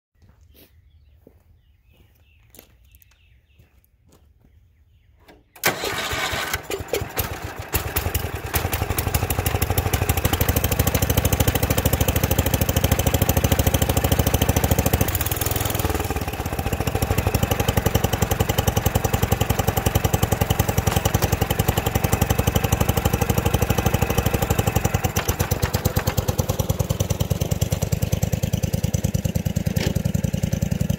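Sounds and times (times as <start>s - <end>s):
garden tractor engine running: 5.3s - 30.9s.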